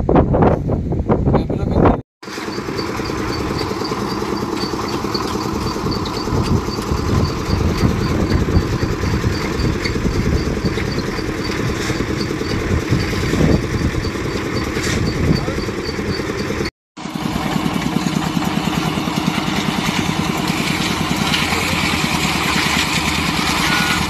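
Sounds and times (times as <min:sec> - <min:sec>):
concrete mixer engine running: 0:02.2 - 0:24.0.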